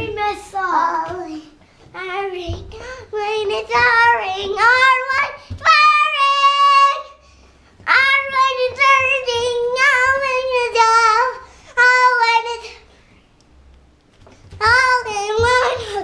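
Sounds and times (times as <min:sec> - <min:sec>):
young child singing: 0:00.0 - 0:07.2, 0:07.8 - 0:12.8, 0:14.6 - 0:16.0.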